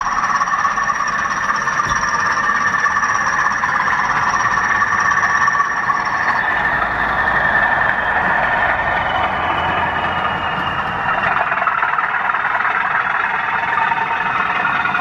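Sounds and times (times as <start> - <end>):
model train high-pitched whine: 0.0 - 15.0.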